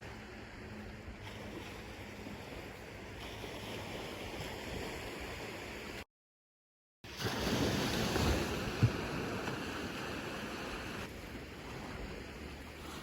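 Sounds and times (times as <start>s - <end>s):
wind: 0.0s - 6.1s, 7.0s - 13.0s.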